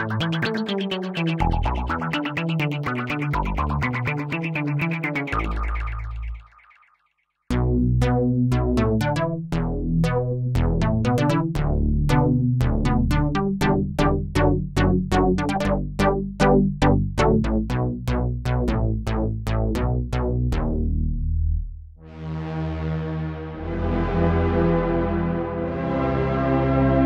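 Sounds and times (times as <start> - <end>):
held synth bass notes: 0.0 - 6.5, 7.5 - 27.0
plucked synthesizer notes: 0.0 - 6.8, 7.5 - 27.0.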